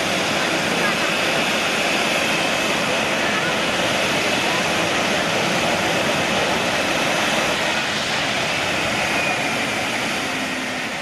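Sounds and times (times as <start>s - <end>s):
jet engine noise: 0.0s - 11.0s.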